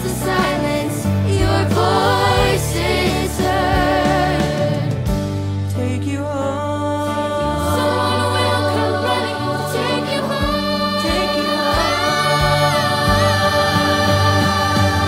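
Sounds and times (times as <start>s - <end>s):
children's choir singing: 0.0s - 5.0s, 7.4s - 15.0s
slow pop ballad backing: 0.0s - 15.0s.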